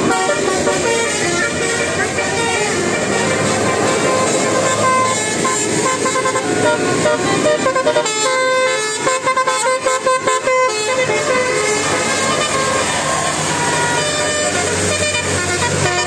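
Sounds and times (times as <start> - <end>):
bus multi-tone horn tune: 0.0 - 16.0.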